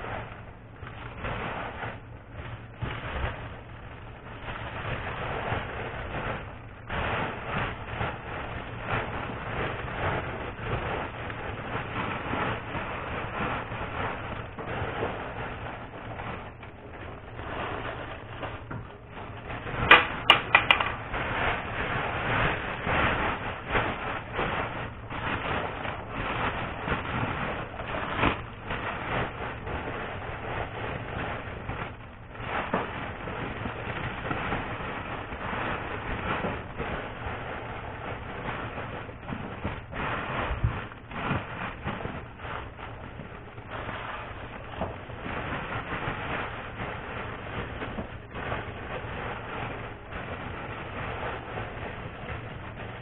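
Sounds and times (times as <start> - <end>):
foil wrappers crinkling: 0.0 - 53.0.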